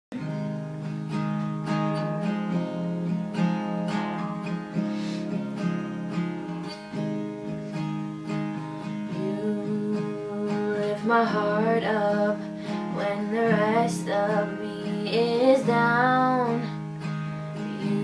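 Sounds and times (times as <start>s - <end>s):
acoustic guitar strumming: 0.1s - 18.0s.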